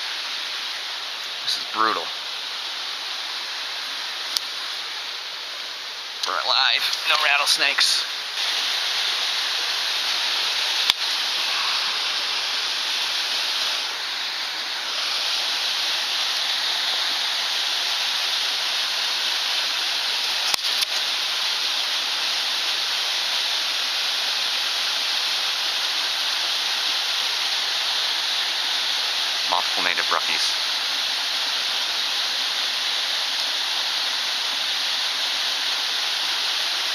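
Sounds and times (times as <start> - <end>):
waterfall rushing into pool: 0.0 - 36.9.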